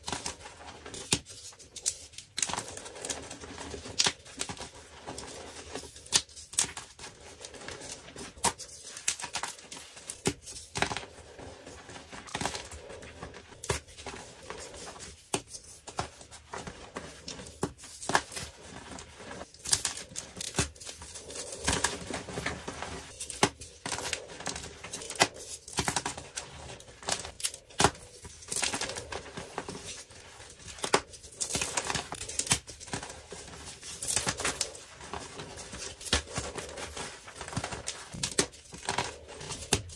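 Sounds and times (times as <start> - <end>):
chalk blocks crunching and snapping: 0.0 - 39.9.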